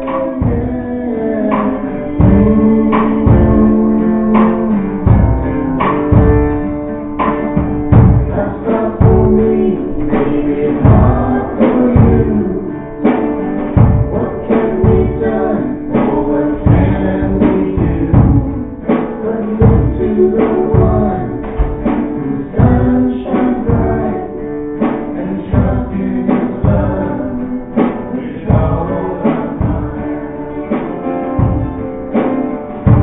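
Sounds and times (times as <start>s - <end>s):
man and woman singing: 0.0s - 32.2s
acoustic guitar strumming: 0.0s - 33.0s.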